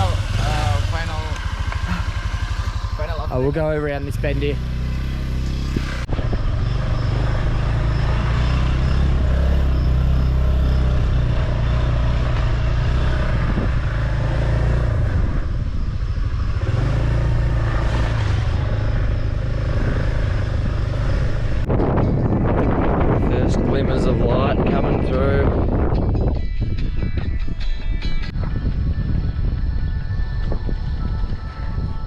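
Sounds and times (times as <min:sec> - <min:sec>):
motorbike engine running: 0:00.0 - 0:32.0
wind noise: 0:01.8 - 0:32.0.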